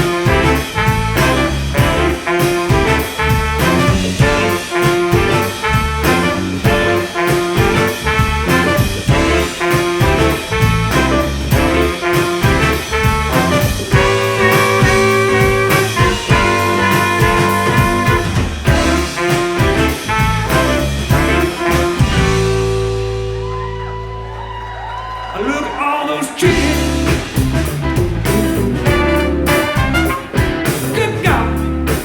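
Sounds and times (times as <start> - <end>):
live funk jazz band playing: 0.0 - 24.4, 26.4 - 32.0
brass horns: 0.0 - 25.2, 26.3 - 31.6.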